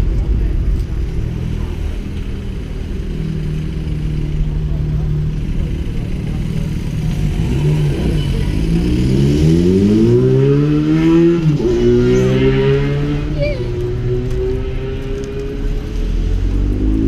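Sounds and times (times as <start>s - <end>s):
car engine idling and pulling away: 0.0s - 17.0s.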